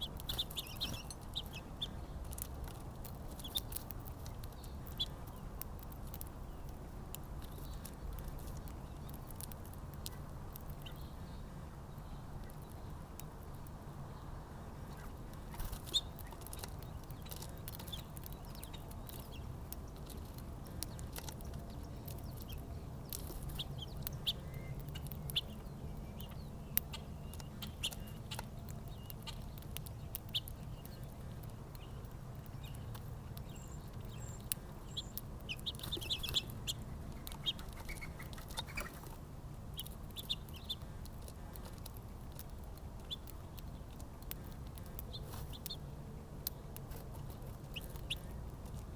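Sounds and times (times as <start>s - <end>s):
low steady hum: 0.0s - 48.9s
small birds chirping: 0.0s - 48.9s.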